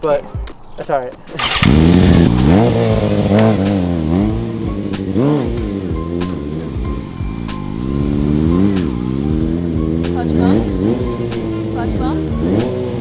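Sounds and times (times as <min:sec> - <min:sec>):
motorcycle engine revving: 0:01.3 - 0:13.0.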